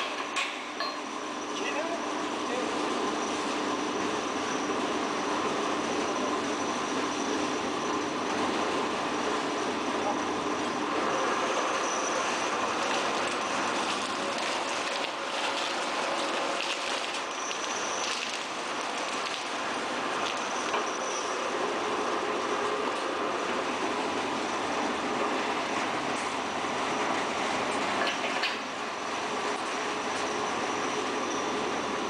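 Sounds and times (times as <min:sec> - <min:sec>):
faint machine whines: 0:00.0 - 0:32.0.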